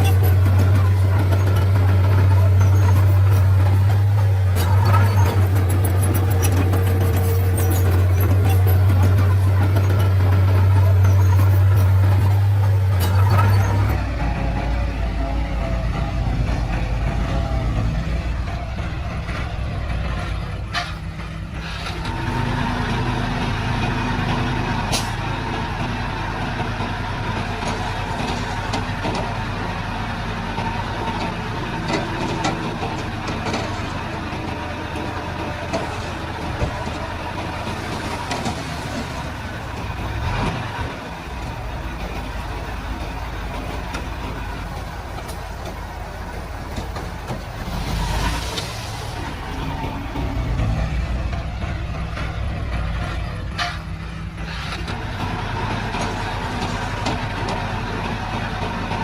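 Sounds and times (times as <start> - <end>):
diesel machinery running: 0.0 - 59.0.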